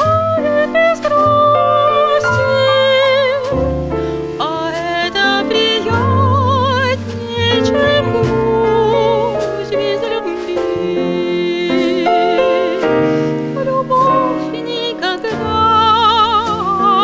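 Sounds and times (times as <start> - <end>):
jazz quartet playing: 0.0 - 17.0
woman singing: 0.0 - 17.0.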